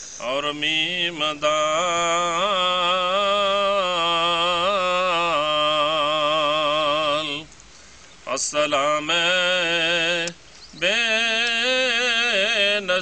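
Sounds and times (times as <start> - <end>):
man singing unaccompanied: 0.0 - 7.6, 8.2 - 13.0.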